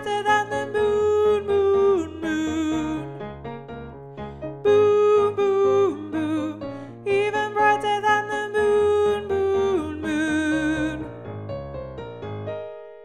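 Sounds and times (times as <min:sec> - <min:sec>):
piano accompaniment: 0:00.0 - 0:13.0.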